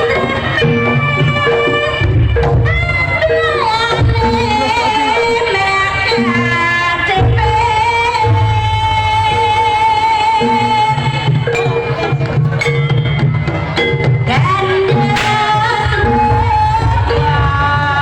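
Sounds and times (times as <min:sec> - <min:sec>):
sliding held melody line: 0:00.0 - 0:17.6
drums: 0:00.0 - 0:18.0
gongs: 0:00.0 - 0:18.0.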